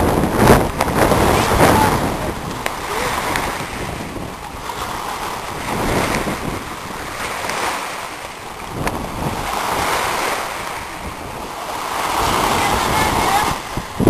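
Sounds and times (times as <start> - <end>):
sea waves washing in: 0.0 - 14.0
wind buffeting microphone: 0.0 - 14.0.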